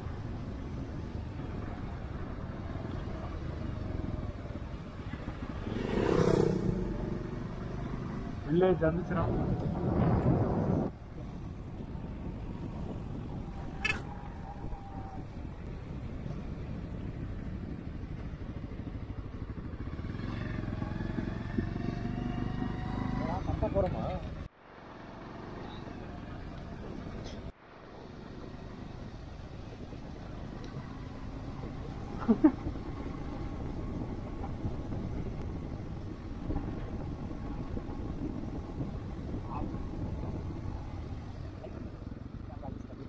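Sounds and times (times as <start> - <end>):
motorcycle engine rumble: 0.0 - 43.0.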